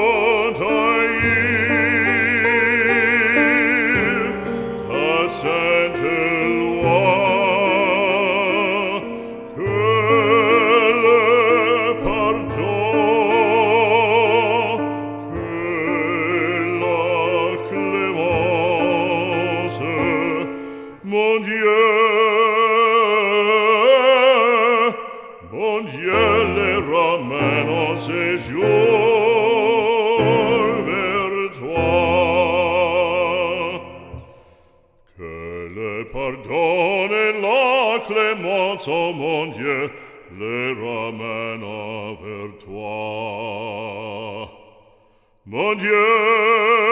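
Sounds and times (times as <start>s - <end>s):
classical accompaniment: 0.0s - 44.4s
operatic singing: 0.0s - 46.9s.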